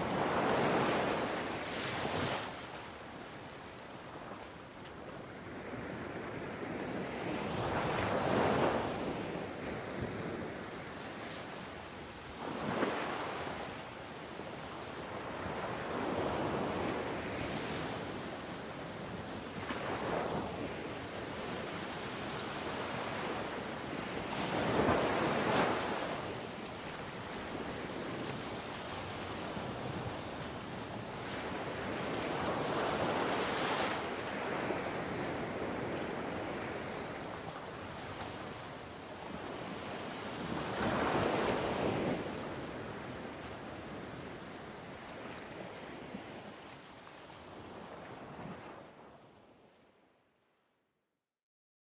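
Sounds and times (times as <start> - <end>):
ocean waves breaking on shore: 0.0 - 49.3.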